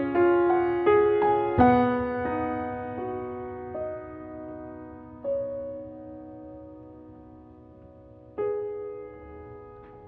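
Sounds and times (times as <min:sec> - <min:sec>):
soft slow piano music: 0:00.0 - 0:10.0.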